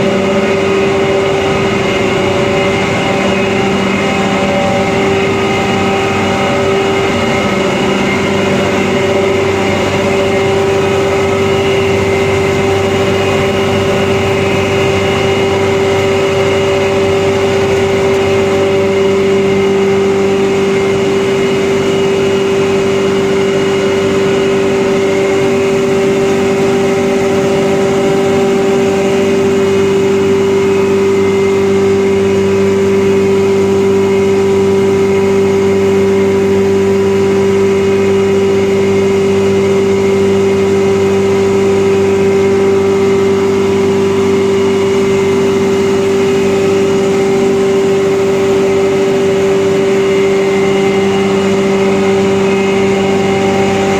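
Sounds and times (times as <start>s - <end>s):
grinding machine hum: 0.0s - 53.9s
machine whine: 0.0s - 53.9s.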